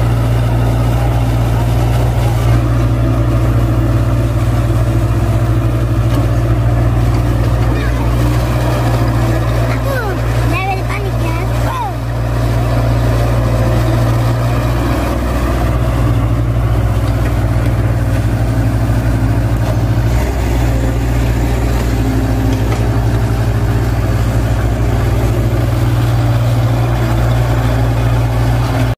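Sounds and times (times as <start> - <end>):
excavator diesel engines running: 0.0 - 28.9.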